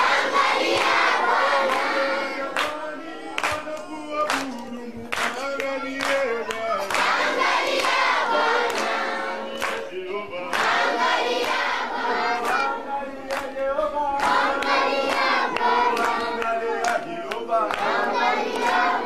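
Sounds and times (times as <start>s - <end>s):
choir singing: 0.0s - 3.9s, 5.8s - 19.0s.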